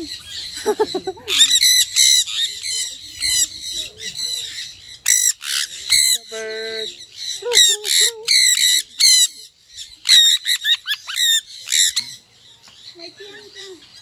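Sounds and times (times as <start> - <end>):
parrots screeching: 0.0 - 12.2.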